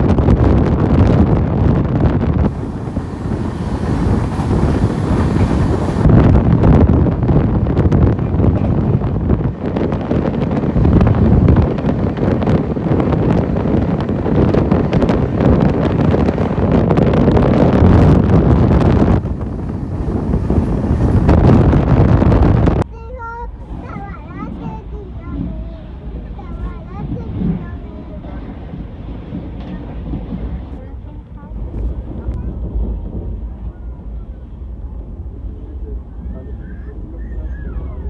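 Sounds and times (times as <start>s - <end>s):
wind buffeting microphone: 0.0s - 38.0s
train wheels rumbling on track: 1.4s - 36.5s.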